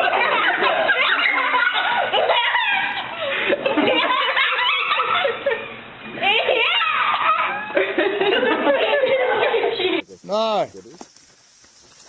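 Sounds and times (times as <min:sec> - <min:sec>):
people laughing and giggling: 0:00.0 - 0:10.0.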